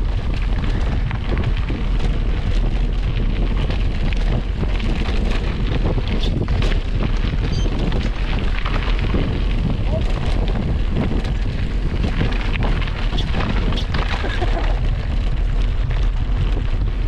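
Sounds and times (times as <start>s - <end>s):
bike rattling on trail: 0.0s - 17.0s
wind buffeting microphone: 0.0s - 17.0s.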